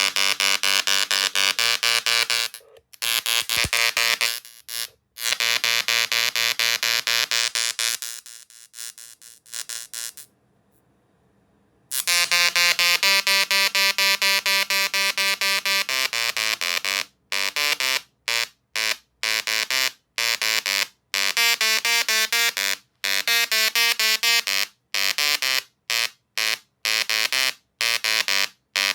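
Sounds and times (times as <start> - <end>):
tesla coil electric buzz: 0.0 - 10.3, 11.9 - 28.9.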